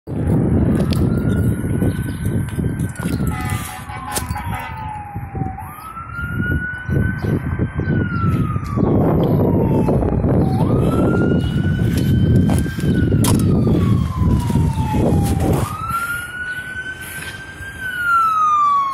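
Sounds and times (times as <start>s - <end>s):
fire engine siren wailing: 0.1s - 18.9s.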